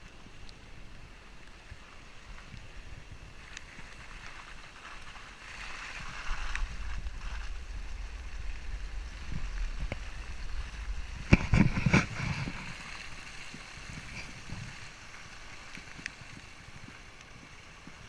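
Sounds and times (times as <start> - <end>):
wind and driving rumble: 0.0 - 18.0.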